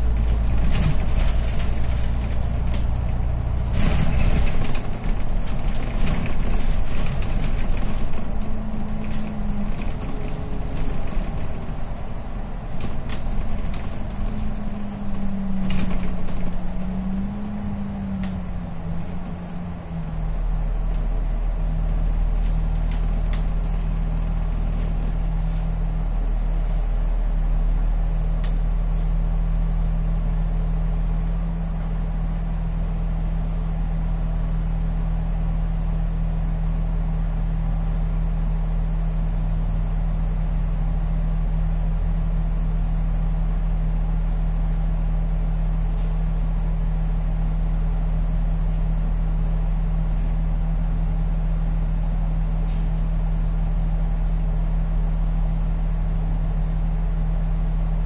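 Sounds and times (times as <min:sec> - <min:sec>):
bus engine idling: 0:00.0 - 0:58.0.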